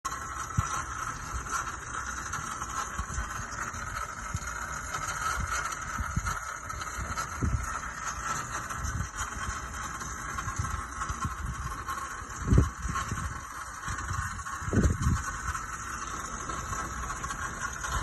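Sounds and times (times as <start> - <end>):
engine running: 0.0 - 18.0
starter motor whine: 0.0 - 18.0.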